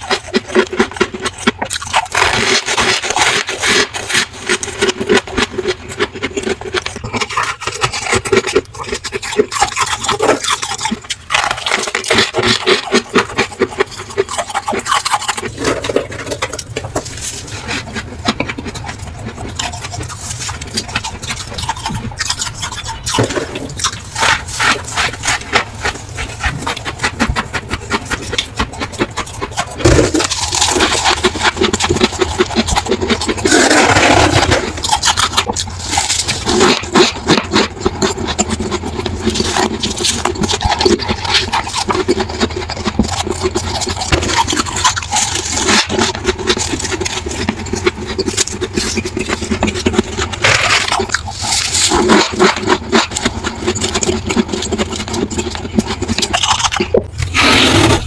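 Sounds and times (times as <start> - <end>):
chewing crunchy ice: 0.0 - 58.0
scraping frost ice: 0.0 - 58.0.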